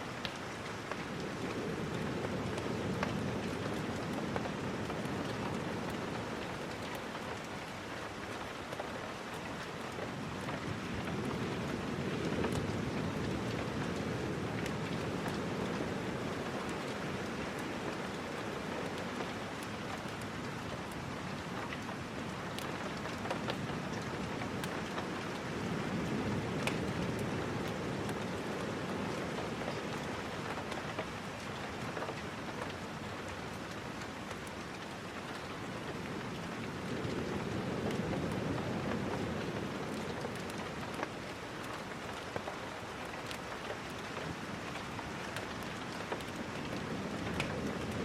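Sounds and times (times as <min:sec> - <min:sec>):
rain falling: 0:00.0 - 0:48.0
small ticks and crackles: 0:00.0 - 0:48.0.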